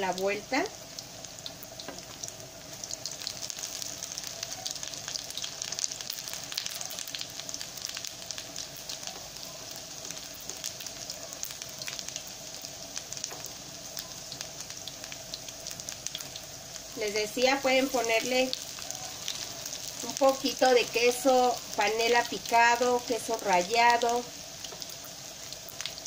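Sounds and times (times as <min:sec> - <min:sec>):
patties sizzling in hot oil: 0:00.0 - 0:26.0.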